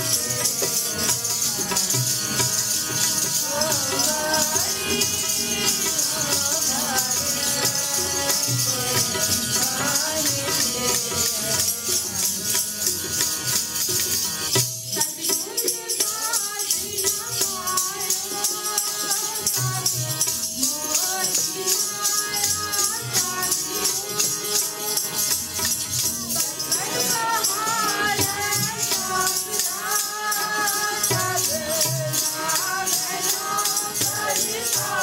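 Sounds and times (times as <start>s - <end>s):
voices singing: 0.0s - 13.4s, 15.0s - 35.0s
jingling rattle beat: 0.0s - 35.0s.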